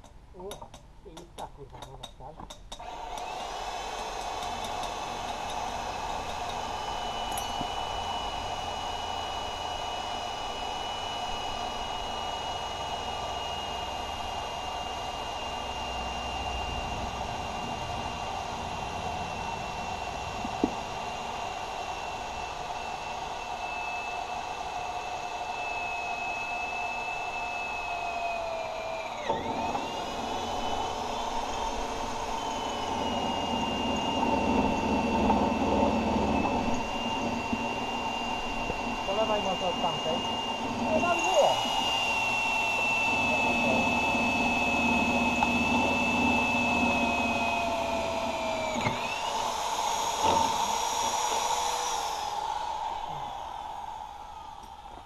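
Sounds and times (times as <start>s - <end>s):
electric drill boring into steel: 2.7s - 55.0s.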